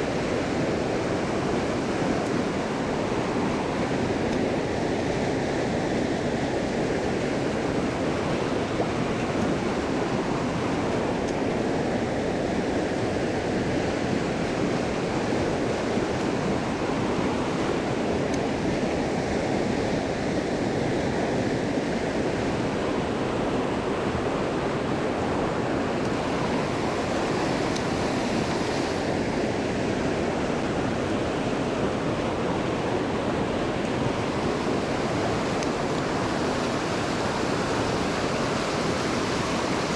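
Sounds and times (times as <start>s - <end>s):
creek rushing: 0.0s - 39.9s.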